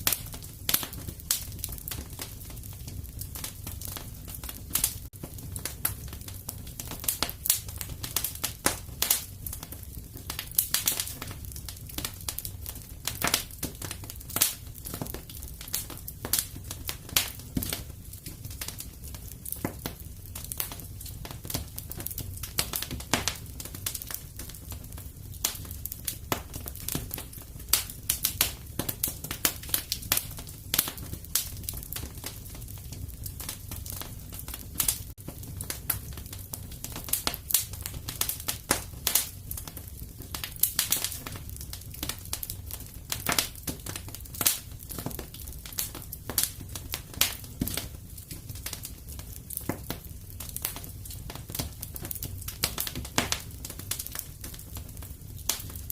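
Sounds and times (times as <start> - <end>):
fire crackling and popping: 0.0 - 55.9
low fire rumble: 0.0 - 55.9.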